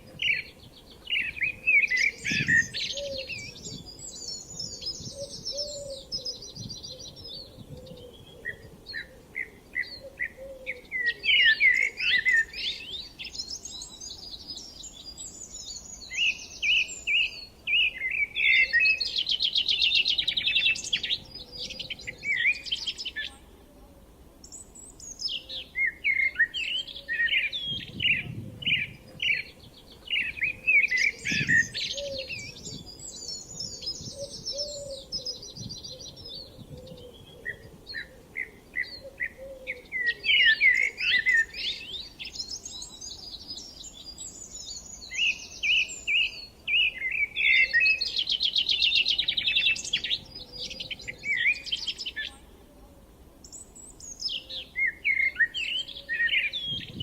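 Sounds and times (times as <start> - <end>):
soft rural background: 0.0 - 57.0
songbirds singing: 0.0 - 57.0.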